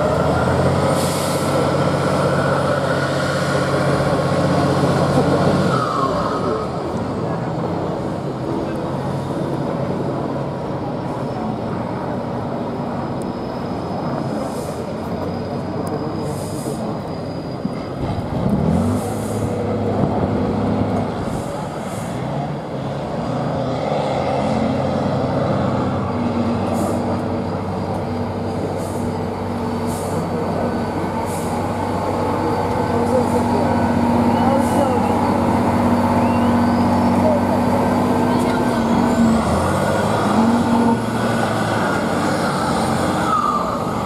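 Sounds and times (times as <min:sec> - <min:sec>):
truck engine revving: 0:00.0 - 0:10.3, 0:18.0 - 0:44.0.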